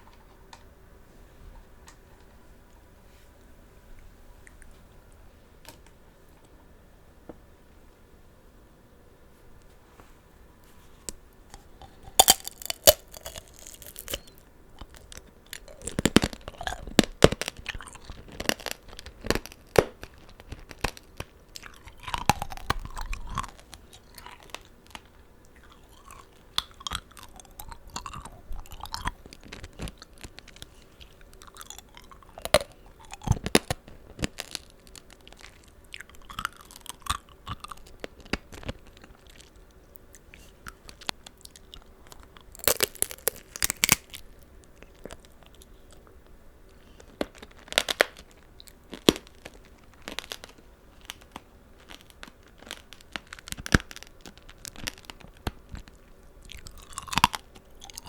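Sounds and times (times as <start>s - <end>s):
candy shell crunching: 11.5s - 58.0s
wet chewing: 11.5s - 58.0s.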